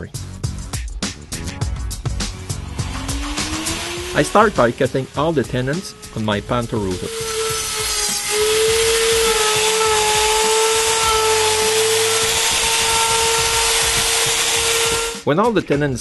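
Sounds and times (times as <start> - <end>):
router whining cutting wood: 2.3 - 15.3.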